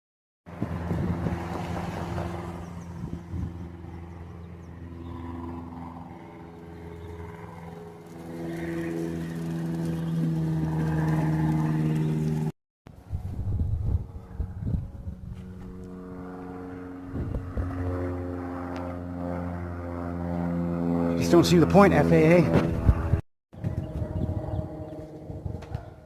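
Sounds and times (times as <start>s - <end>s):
low-flying plane engine droning: 0.5s - 26.0s.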